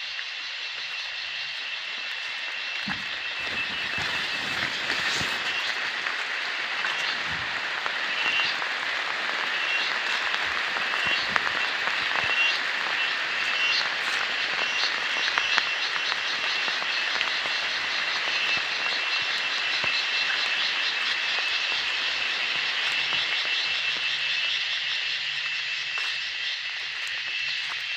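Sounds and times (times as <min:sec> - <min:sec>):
steady hiss: 0:00.0 - 0:27.9.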